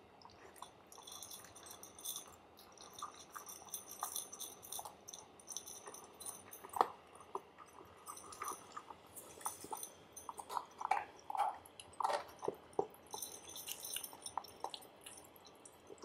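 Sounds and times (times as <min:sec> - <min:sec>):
puppy crunching food: 0:00.2 - 0:16.0
kibble clicking against bowl: 0:00.3 - 0:16.0.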